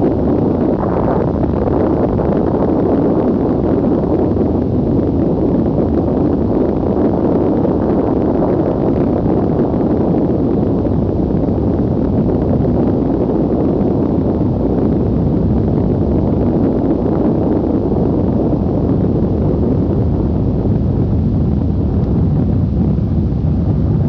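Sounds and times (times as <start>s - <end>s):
loud low rumbling: 0.0s - 24.0s.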